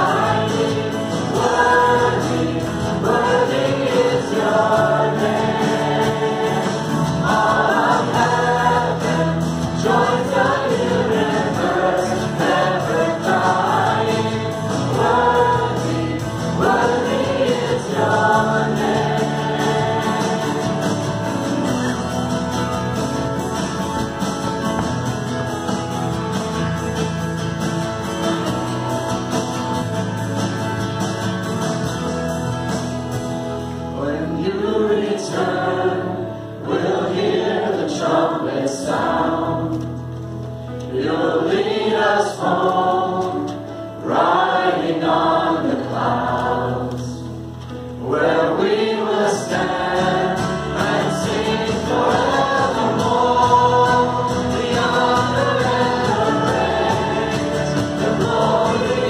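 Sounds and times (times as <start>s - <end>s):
band playing guitars and bass: 0.0s - 59.0s.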